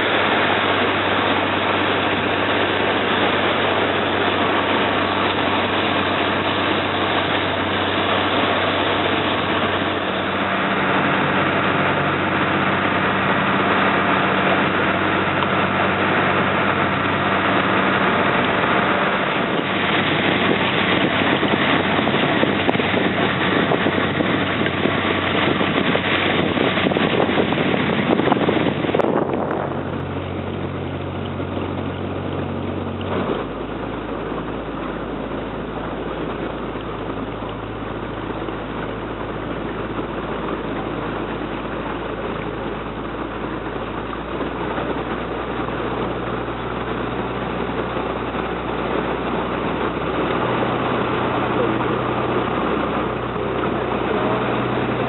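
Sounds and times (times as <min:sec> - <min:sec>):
boat engine humming: 0:00.0 - 0:55.0
dense wash of noise: 0:00.0 - 0:55.0.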